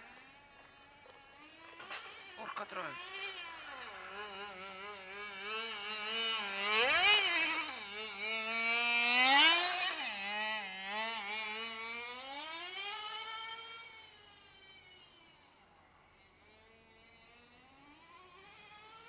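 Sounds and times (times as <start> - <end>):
small nitro engine revving: 0.0 - 19.0.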